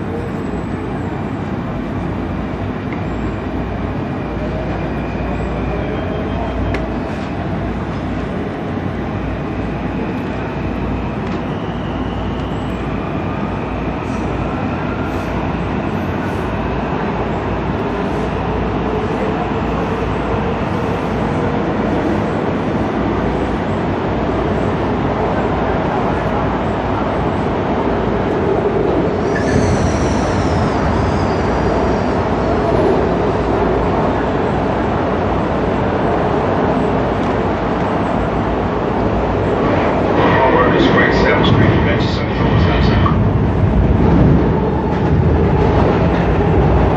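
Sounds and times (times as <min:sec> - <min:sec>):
subway train wheels on rails: 0:00.0 - 0:46.9.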